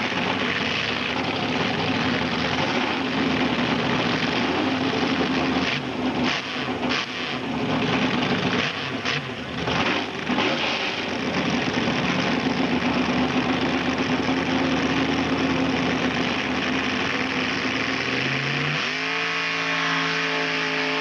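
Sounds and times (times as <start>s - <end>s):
engine running hard: 0.0s - 21.0s.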